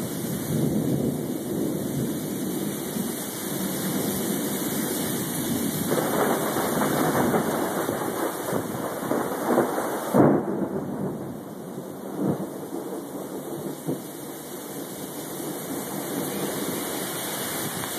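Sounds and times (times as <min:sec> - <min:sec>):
heavy rain pouring: 0:00.0 - 0:17.9.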